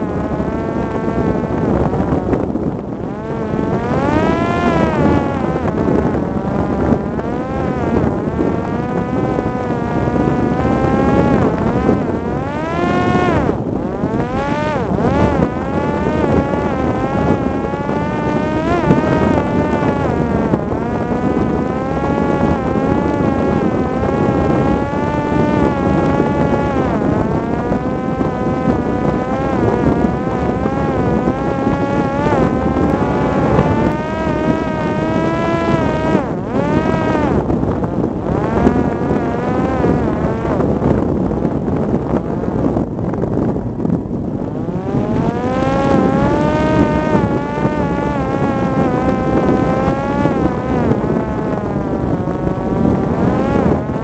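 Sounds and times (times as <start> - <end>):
drone motor whining: 0.0 - 54.0.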